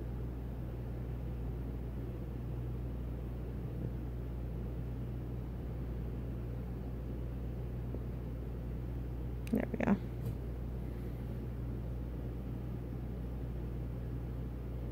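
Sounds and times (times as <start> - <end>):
low mechanical hum: 0.0 - 14.9.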